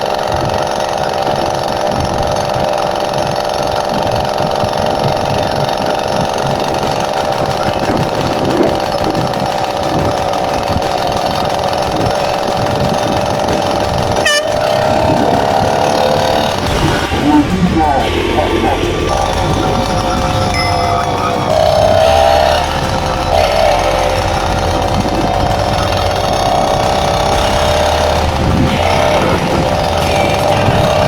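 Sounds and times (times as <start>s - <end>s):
motorcycle engine running: 0.0s - 31.0s
rushing wind noise: 0.0s - 31.0s.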